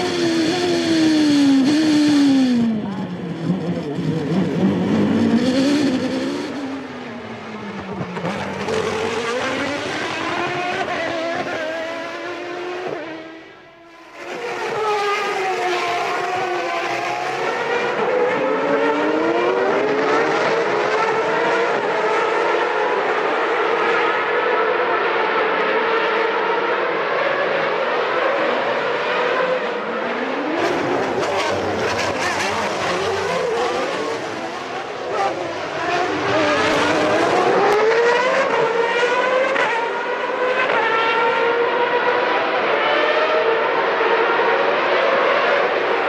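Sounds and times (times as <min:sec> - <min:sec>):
racing car engines at high revs: 0:00.0 - 0:46.0.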